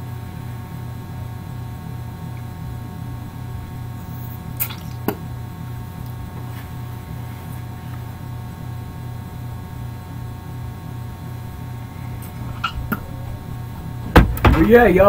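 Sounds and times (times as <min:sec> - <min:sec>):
pulsing electrical hum: 0:00.0 - 0:15.0.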